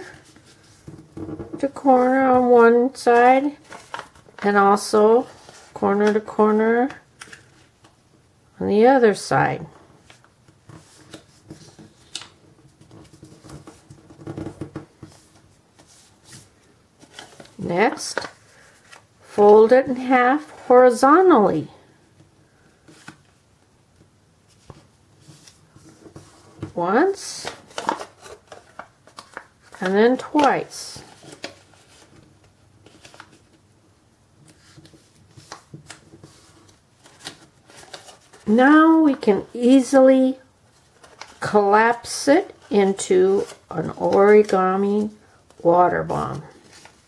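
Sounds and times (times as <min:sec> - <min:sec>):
paper rustling and crinkling: 0:00.0 - 0:06.3, 0:10.0 - 0:20.7, 0:24.5 - 0:33.6, 0:34.4 - 0:39.8, 0:40.6 - 0:47.0.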